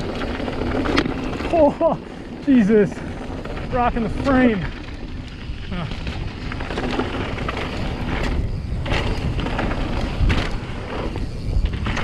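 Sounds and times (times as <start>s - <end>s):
wind and tyres on dirt: 0.0s - 12.0s.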